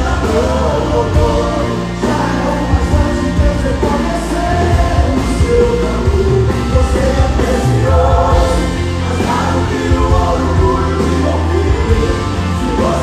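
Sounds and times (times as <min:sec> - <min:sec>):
live band playing: 0:00.0 - 0:13.0
male vocals: 0:00.0 - 0:13.0.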